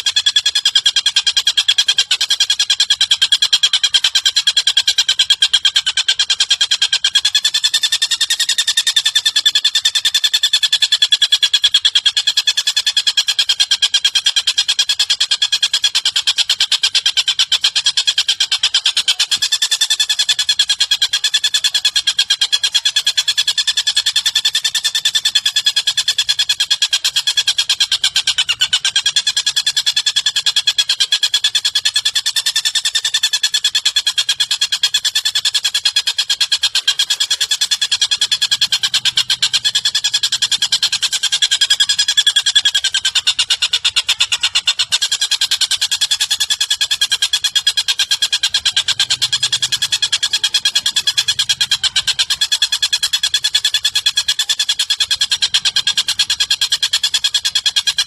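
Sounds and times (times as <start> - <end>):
songbird fast high trill: 0.0 - 58.0.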